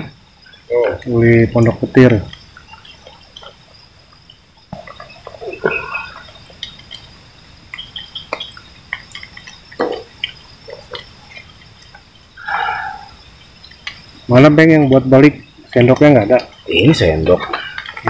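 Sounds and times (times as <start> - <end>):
night insects chirring: 0.0 - 18.0.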